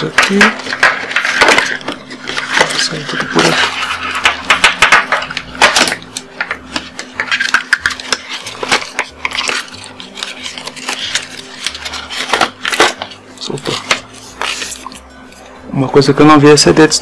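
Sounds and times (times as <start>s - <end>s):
packaging rustling and clicking: 0.0s - 15.4s.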